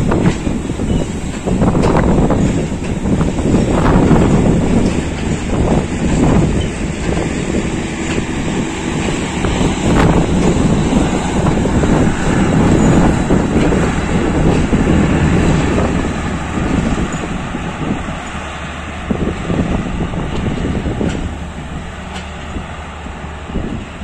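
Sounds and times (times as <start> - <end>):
train coaches rumbling past: 0.0 - 24.0
wind gusting over microphone: 0.0 - 24.0.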